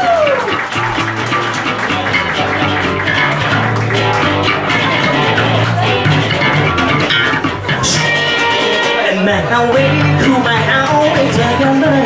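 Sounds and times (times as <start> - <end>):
electric bass guitar line: 0.0 - 12.0
live rock band playing: 0.0 - 12.0.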